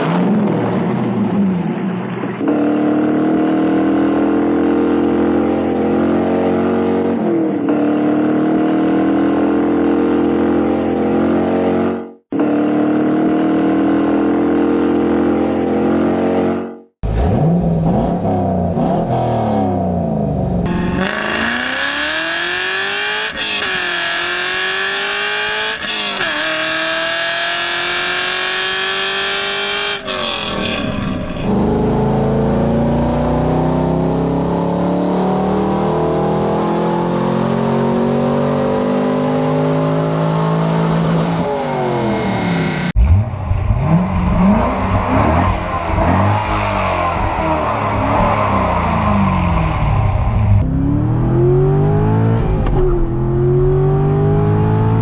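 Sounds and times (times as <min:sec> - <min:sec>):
car engine accelerating and revving: 0:00.0 - 0:55.0.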